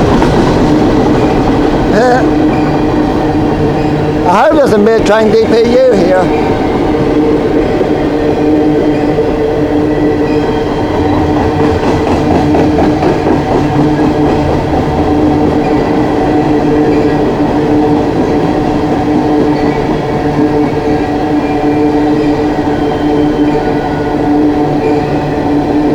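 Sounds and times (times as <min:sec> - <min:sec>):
train cars rumbling past: 0:00.0 - 0:25.9.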